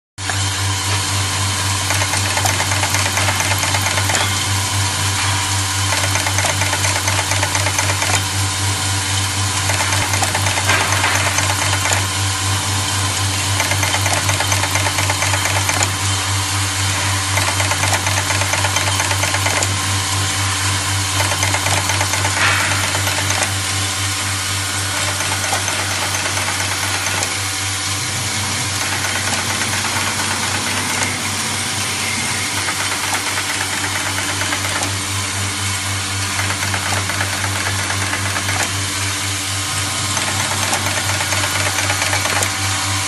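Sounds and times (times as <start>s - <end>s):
machine humming and rattling: 0.2s - 43.0s.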